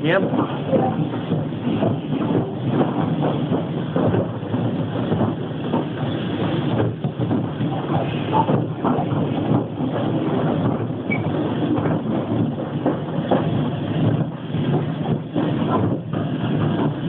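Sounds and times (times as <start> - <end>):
knocks and rattles: 0.0 - 17.0
train wheels rumbling on track: 0.0 - 17.0.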